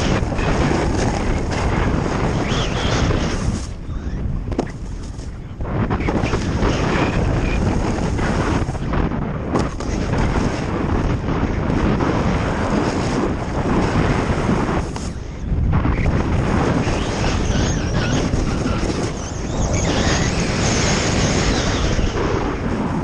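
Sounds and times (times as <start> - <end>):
snowboard scraping snow: 0.0 - 3.8, 4.5 - 23.0
wind buffeting microphone: 0.0 - 23.0.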